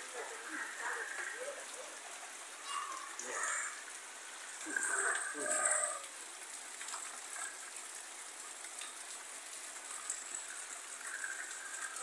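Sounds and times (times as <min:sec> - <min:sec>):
heavy rain on leaves: 0:00.0 - 0:12.0
rain on sheet metal roof: 0:00.0 - 0:12.0
water pouring off roof: 0:00.0 - 0:12.0.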